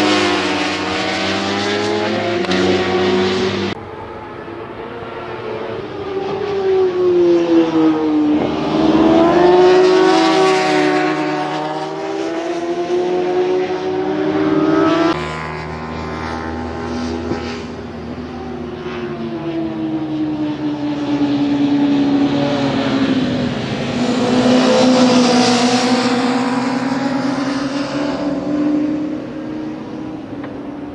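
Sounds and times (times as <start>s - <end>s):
racing motorcycles passing: 0.0s - 30.9s.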